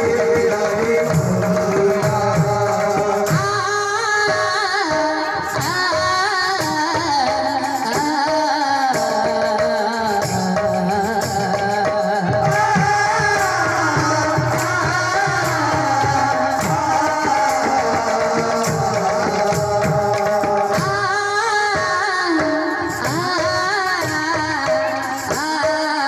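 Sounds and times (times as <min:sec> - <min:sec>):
hand drum beating: 0:00.0 - 0:26.0
person singing: 0:00.0 - 0:26.0.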